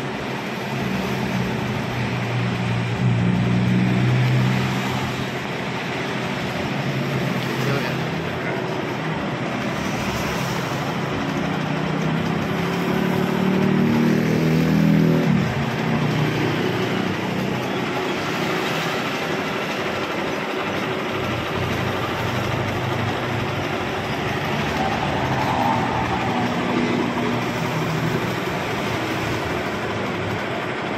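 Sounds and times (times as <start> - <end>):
low drone: 0.0 - 30.7
spin dryer whirring rumble: 0.0 - 30.9.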